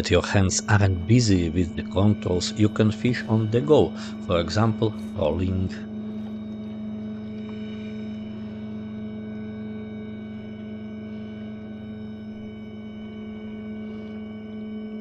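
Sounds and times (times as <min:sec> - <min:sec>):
electric boat motor humming: 0:00.0 - 0:15.0.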